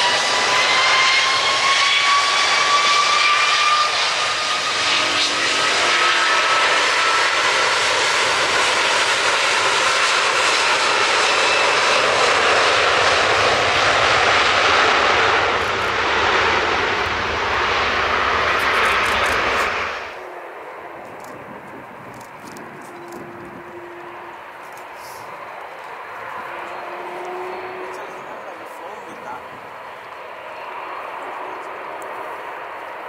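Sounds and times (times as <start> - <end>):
jet engines roaring with whine: 0.0 - 33.0.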